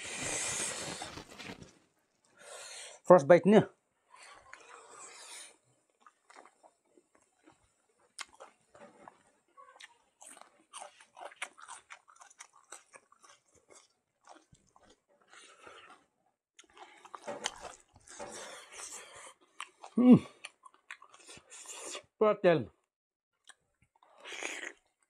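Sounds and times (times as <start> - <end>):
person chewing and crunching food: 0.0 - 2.4, 4.4 - 22.0, 23.4 - 25.0.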